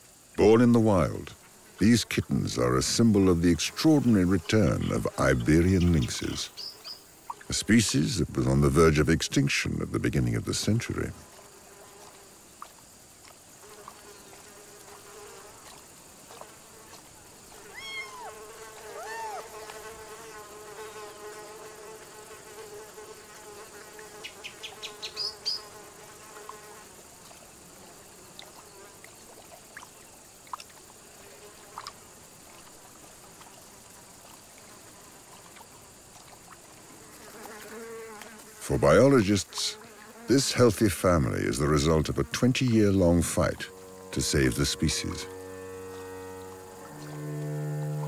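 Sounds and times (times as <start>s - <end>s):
flying insect buzzing: 0.0s - 48.0s.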